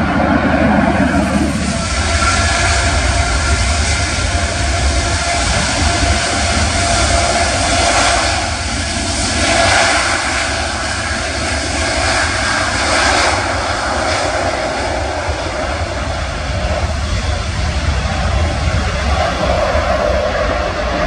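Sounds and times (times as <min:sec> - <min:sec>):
jet engines roaring: 0:00.0 - 0:21.0
wind buffeting microphone: 0:00.0 - 0:21.0.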